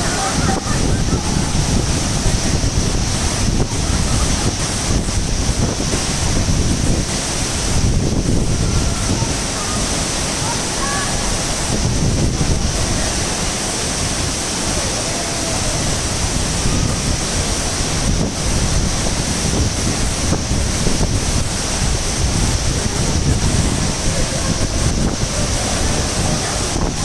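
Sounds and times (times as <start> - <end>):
waterfall roaring: 0.0 - 27.0
wind buffeting microphone: 0.0 - 27.0.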